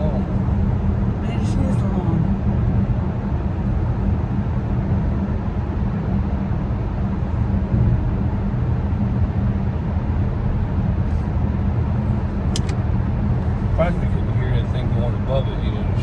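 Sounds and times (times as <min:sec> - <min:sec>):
car road and engine drone: 0:00.0 - 0:16.0.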